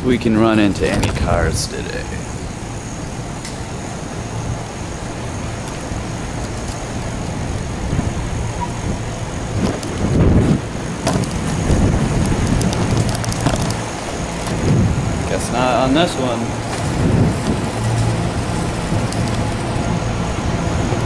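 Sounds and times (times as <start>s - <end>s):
bicycle rolling on concrete: 0.0s - 21.0s
wind on microphone: 0.0s - 21.0s.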